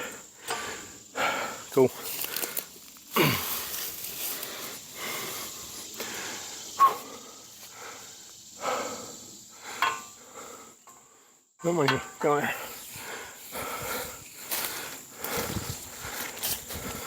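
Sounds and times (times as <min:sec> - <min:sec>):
man breathing heavily: 0:00.0 - 0:11.6, 0:12.4 - 0:17.0.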